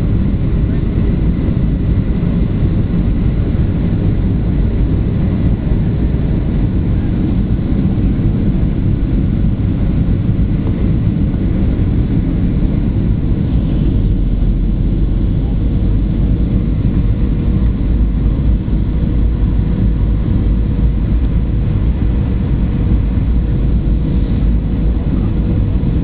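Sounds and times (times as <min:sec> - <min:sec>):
airliner cabin rumble: 0:00.0 - 0:26.0.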